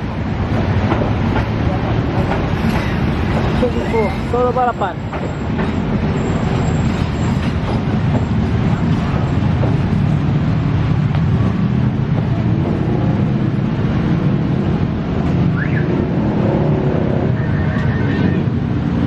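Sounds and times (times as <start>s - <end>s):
vehicles rumbling: 0.0s - 19.0s.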